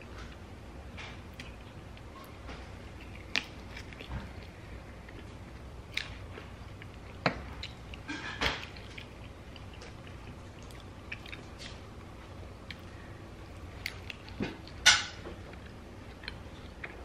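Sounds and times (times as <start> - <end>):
chewing chicken wing: 1.0 - 14.8, 15.4 - 17.0.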